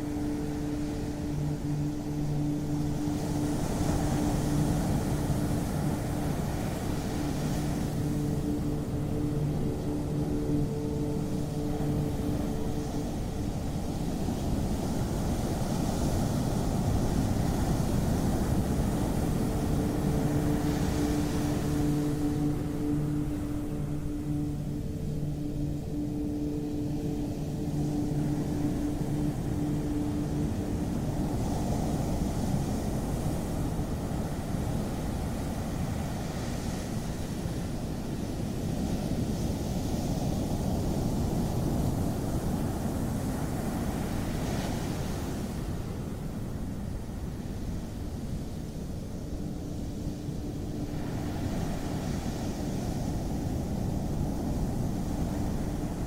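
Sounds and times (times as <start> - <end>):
hiss of surf wash: 0.0 - 56.0
soft low hum of held tones: 0.0 - 56.0.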